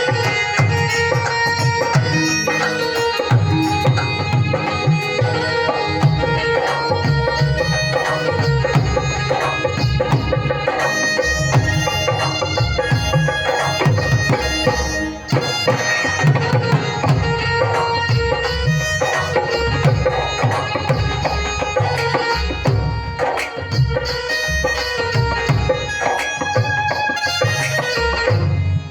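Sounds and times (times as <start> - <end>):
dhol drum fast rhythm: 0.0 - 28.9
melodic backing music: 0.0 - 28.9.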